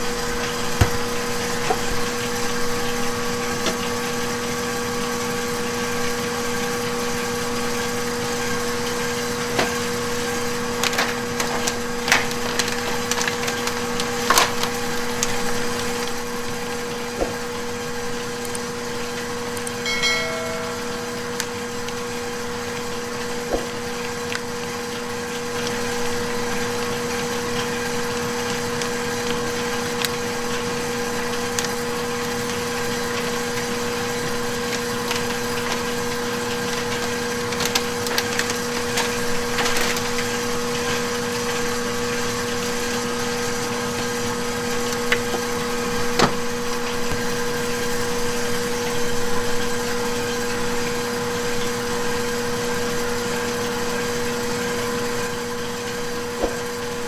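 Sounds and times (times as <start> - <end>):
kitchen machinery humming: 0.0 - 57.0.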